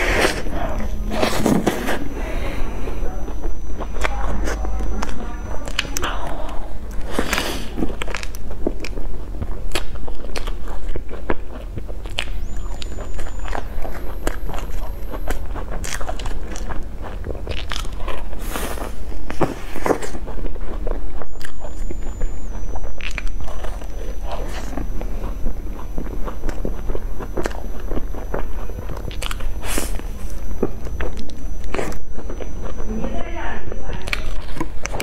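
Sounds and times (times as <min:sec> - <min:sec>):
biting and chewing pastry: 0:00.0 - 0:35.0.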